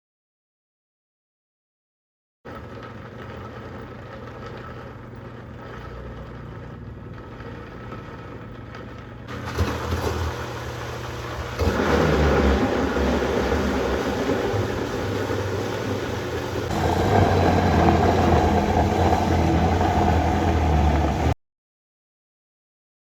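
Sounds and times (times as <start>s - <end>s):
blender motor humming: 2.5s - 21.4s.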